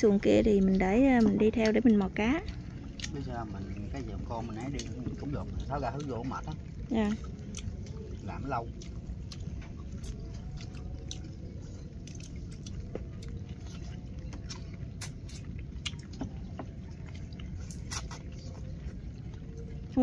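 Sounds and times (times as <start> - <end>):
chewing: 0.1 - 20.0.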